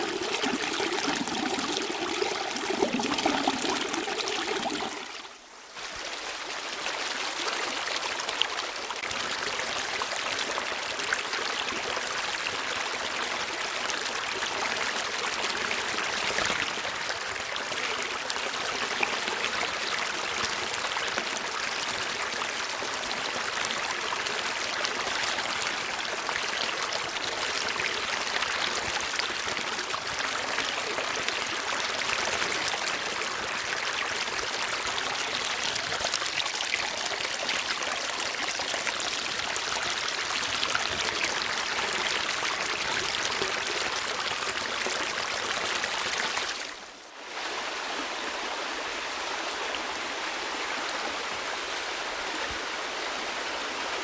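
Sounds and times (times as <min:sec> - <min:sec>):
stream of water flowing: 0:00.0 - 0:54.0.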